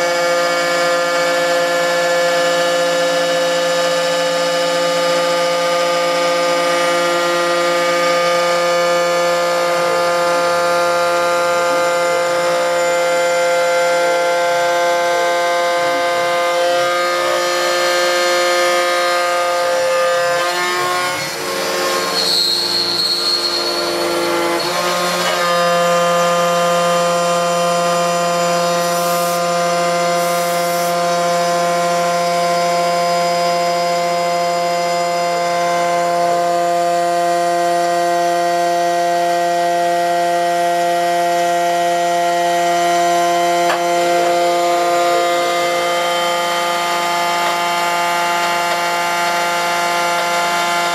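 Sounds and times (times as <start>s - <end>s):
cnc router machining whine: 0.0s - 50.9s.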